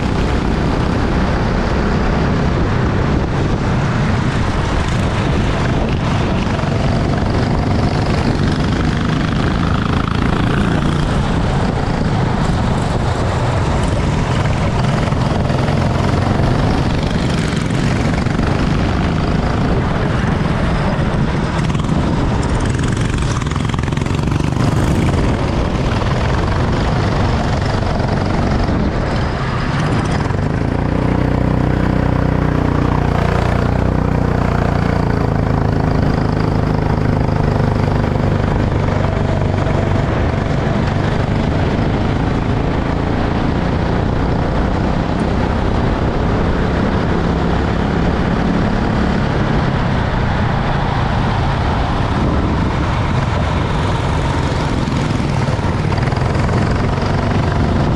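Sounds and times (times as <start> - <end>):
kart engine running hard: 0.0 - 57.9
wind noise: 0.0 - 57.9.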